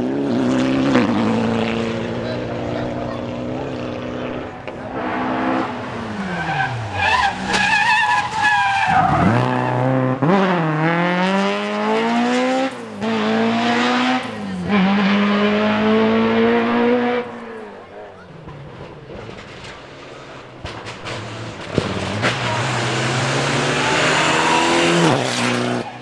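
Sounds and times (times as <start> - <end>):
rally car engine revving: 0.0 - 26.0
tires squealing: 2.0 - 10.7, 13.1 - 26.0.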